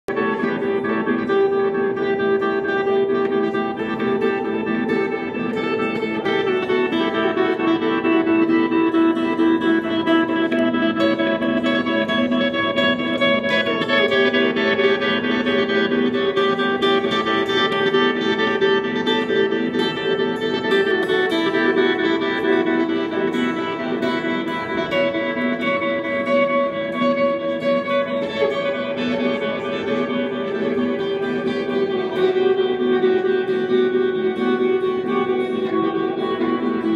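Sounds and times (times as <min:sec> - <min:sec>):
plucked string-like notes: 0:00.1 - 0:36.9.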